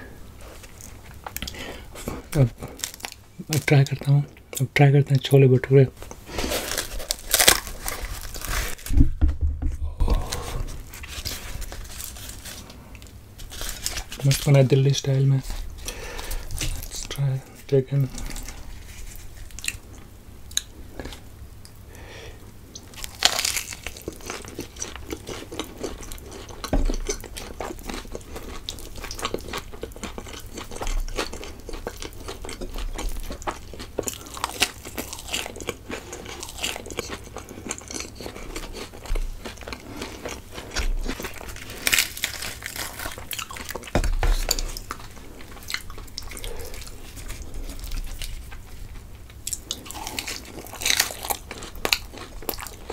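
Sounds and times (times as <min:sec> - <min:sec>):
close-miked eating and crunching: 0:00.0 - 0:09.0, 0:09.9 - 0:52.9.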